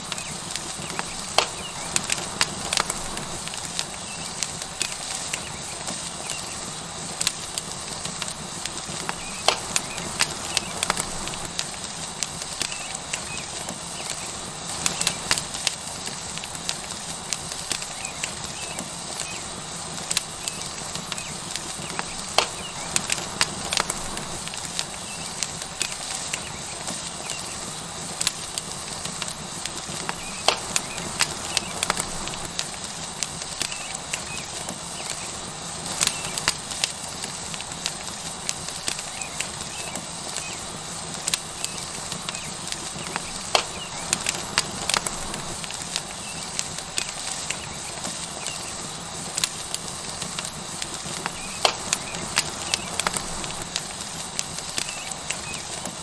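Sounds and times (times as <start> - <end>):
steak sizzling on hot rock: 0.0 - 56.0
wood fire crackling and popping: 0.0 - 56.0.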